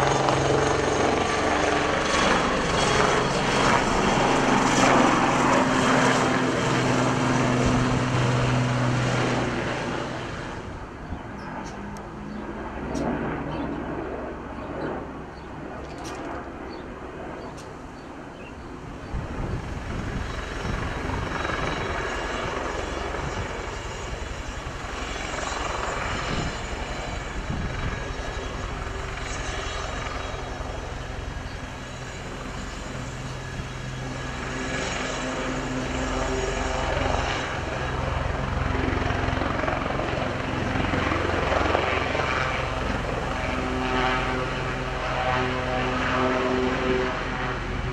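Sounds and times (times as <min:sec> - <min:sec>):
helicopter hovering: 0:00.0 - 0:47.9.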